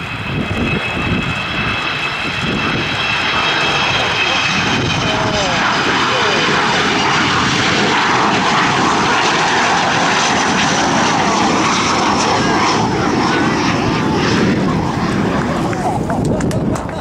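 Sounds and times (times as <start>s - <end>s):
jet aircraft flying low past: 0.0s - 17.0s.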